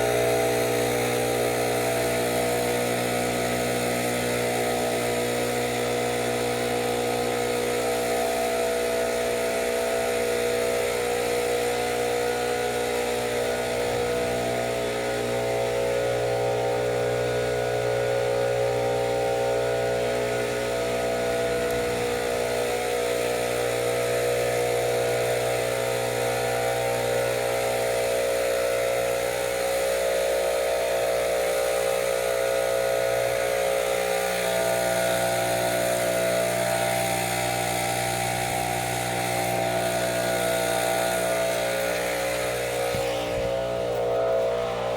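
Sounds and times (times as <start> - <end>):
steady motor drone: 0.0 - 44.9.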